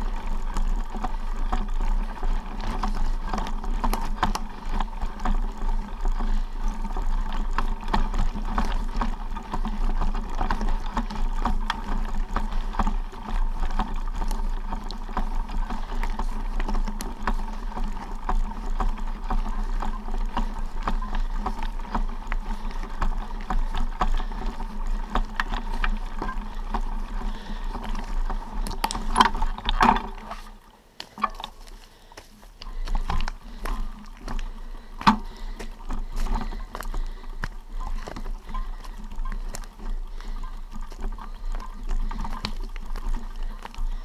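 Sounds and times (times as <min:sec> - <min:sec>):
footsteps crunching on stones: 0:00.0 - 0:44.0
stones clicking underfoot: 0:00.0 - 0:44.0.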